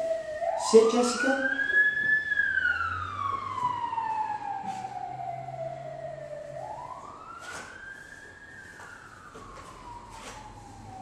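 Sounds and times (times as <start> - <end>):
wailing siren: 0.0 - 11.0.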